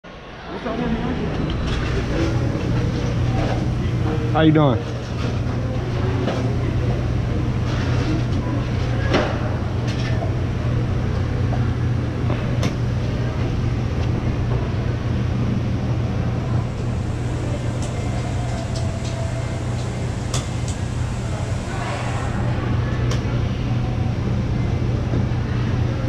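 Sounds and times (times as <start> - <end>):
low mechanical hum: 0.1 - 26.0.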